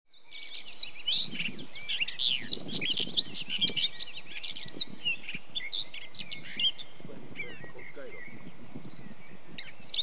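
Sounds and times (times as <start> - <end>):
songbirds chirping: 0.1 - 10.0.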